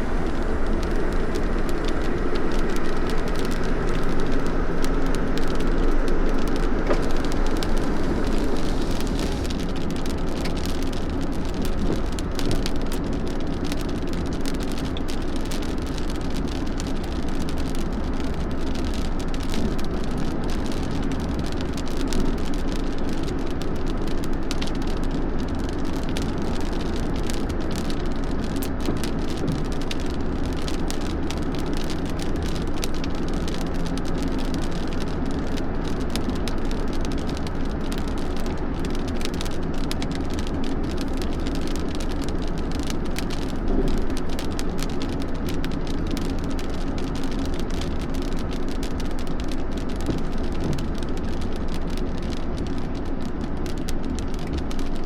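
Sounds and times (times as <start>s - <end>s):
steady rain falling: 0.0s - 55.0s
vehicle running noise: 0.0s - 55.0s
raindrop ticks: 0.1s - 55.0s.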